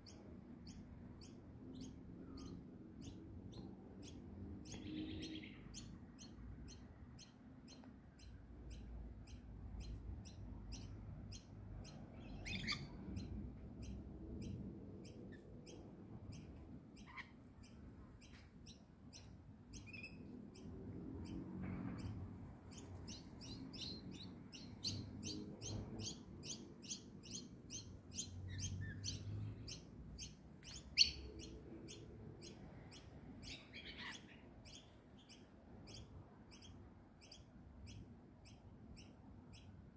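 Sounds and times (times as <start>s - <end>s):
faint low rumble: 0.0s - 39.7s
bird chirping: 0.0s - 39.9s.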